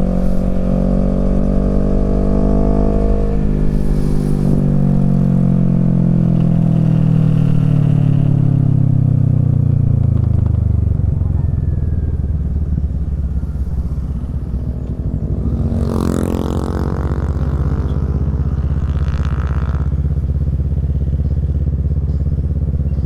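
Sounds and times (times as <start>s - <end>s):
vehicle passing by: 0.0s - 21.8s
motorcycle engine running: 0.0s - 23.0s.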